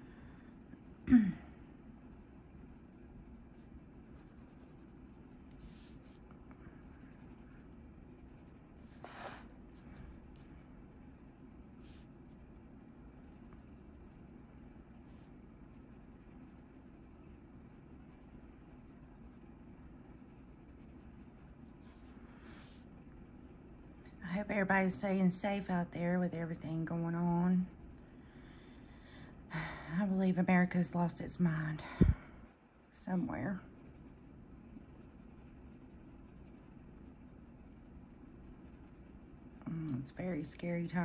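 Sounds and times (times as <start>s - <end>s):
colored pencil scratching on paper: 0.2s - 1.0s, 1.6s - 10.5s, 11.1s - 12.4s, 13.2s - 19.4s, 20.1s - 22.9s, 23.6s - 29.0s, 32.4s - 41.0s.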